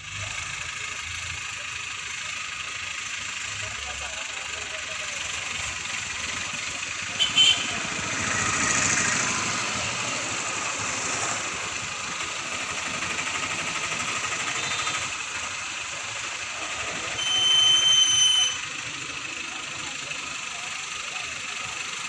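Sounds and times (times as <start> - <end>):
crane diesel engine running: 0.0 - 22.0.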